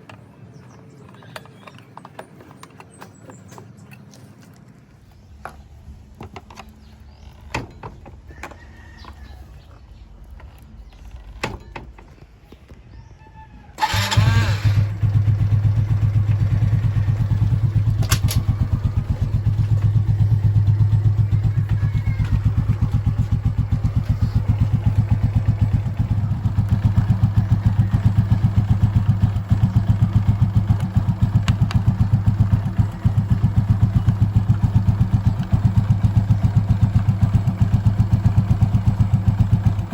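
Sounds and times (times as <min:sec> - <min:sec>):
motorcycle engine starting and idling: 0:05.2 - 0:12.2, 0:13.7 - 0:39.9.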